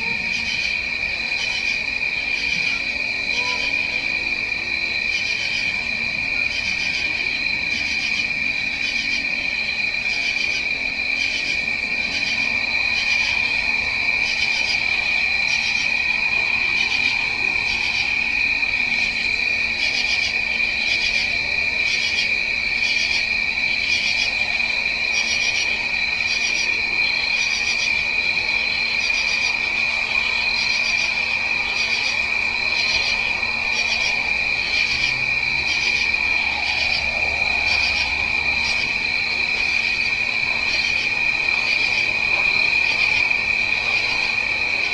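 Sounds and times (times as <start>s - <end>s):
crickets high-pitched trill: 0.0s - 44.9s
pulsing cricket chirp: 0.0s - 44.9s.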